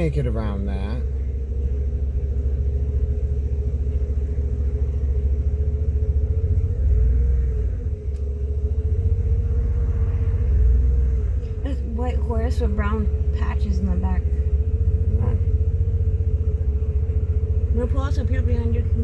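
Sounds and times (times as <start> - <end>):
droning hum: 0.0 - 19.0
vehicle rumble inside cabin: 0.0 - 19.0.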